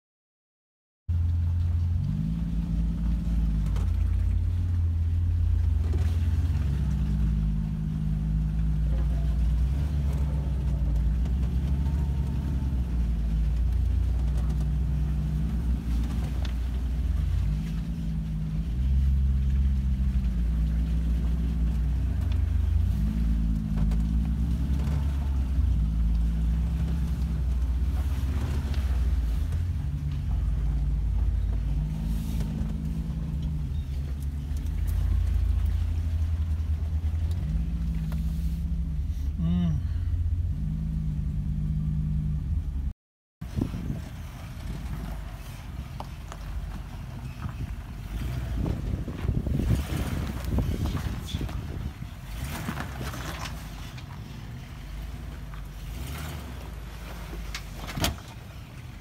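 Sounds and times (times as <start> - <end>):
engine revving at low speed: 1.1 - 59.0.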